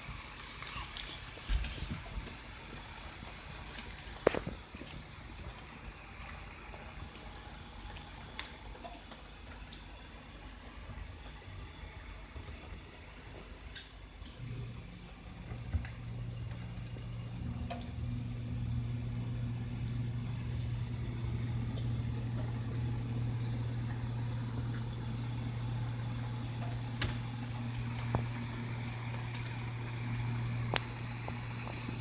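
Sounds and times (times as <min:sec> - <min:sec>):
kitchen appliance humming: 0:00.0 - 0:32.0.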